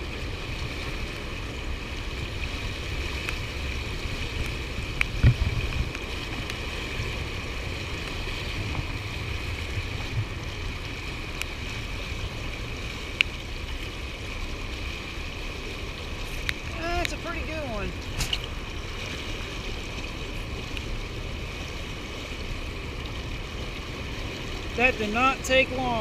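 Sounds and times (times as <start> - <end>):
water rushing from spillway: 0.0 - 26.0
wind buffeting microphone: 0.0 - 26.0.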